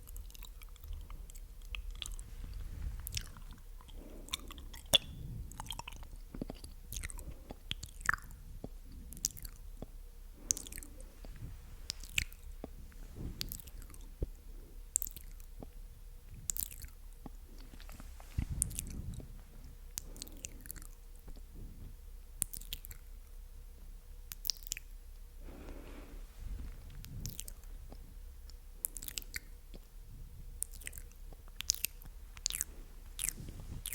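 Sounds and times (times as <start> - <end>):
wet lip and tongue clicks: 0.0 - 21.5, 22.4 - 23.1, 24.3 - 25.0, 26.9 - 30.0, 30.6 - 33.9.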